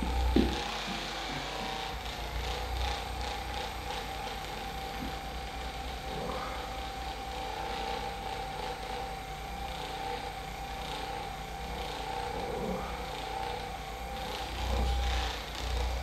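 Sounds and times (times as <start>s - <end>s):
electric massager motor whine: 0.0s - 16.0s.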